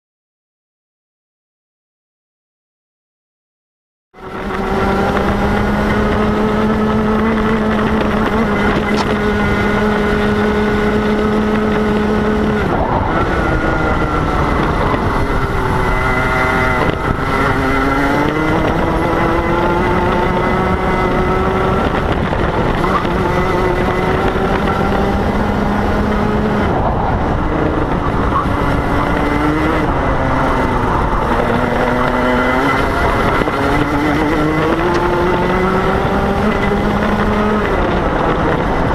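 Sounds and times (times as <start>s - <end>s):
kart engine at racing speed: 4.2s - 38.9s.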